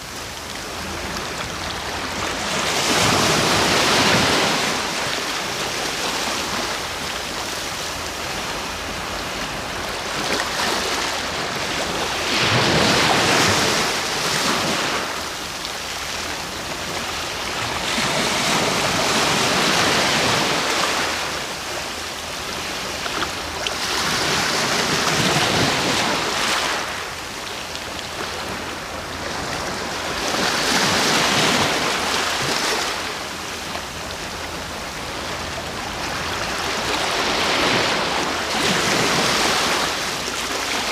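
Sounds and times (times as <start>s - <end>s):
background rush of surf: 0.0s - 40.9s
sea waves breaking: 0.0s - 40.9s.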